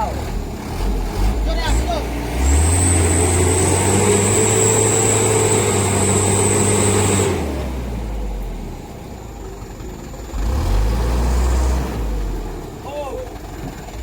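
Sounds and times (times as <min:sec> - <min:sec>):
diesel truck engine whining: 0:00.0 - 0:14.0.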